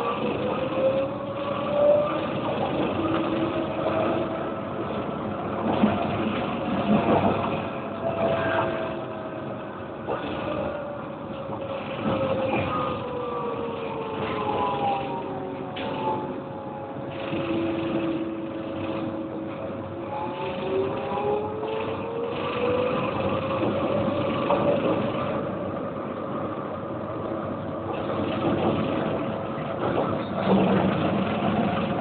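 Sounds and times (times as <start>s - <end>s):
tram rumbling with whining tones: 0.0s - 32.0s.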